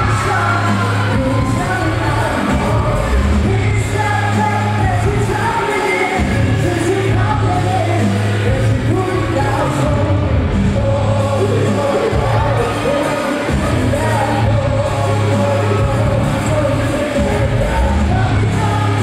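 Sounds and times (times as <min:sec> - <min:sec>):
heavy bass line: 0:00.0 - 0:19.0
pop music with sung vocal: 0:00.0 - 0:19.0.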